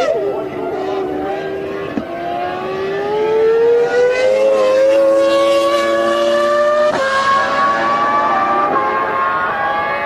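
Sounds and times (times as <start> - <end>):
racing car engine accelerating: 0.0 - 10.0.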